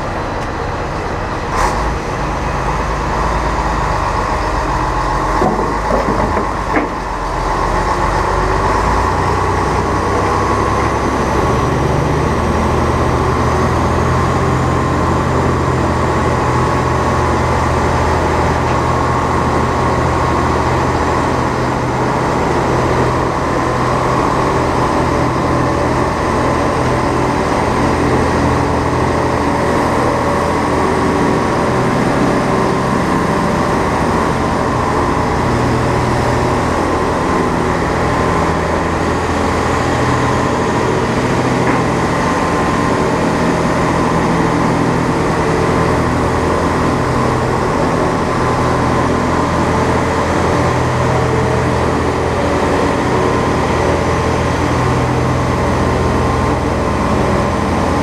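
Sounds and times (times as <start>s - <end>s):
diesel engine running: 0.0s - 58.0s
road noise: 0.0s - 58.0s.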